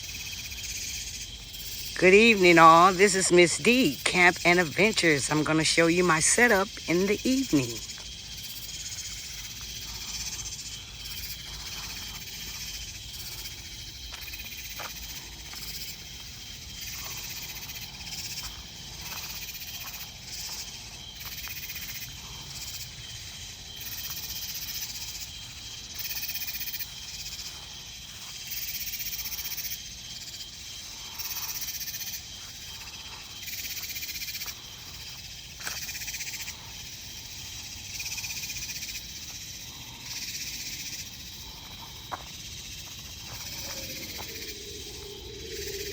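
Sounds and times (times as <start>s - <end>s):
crickets trilling: 0.0s - 45.9s
frogs: 0.0s - 45.9s
insect buzzing calls: 0.0s - 45.9s.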